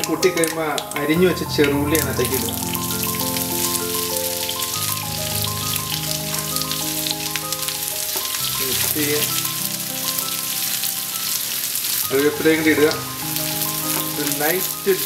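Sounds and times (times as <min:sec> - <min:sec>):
background music: 0:00.0 - 0:15.0
shallots sizzling in oil: 0:02.0 - 0:15.0.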